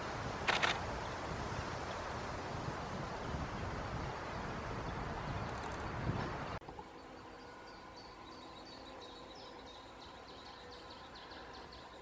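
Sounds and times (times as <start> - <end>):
woodland ambience: 0.0 - 12.0.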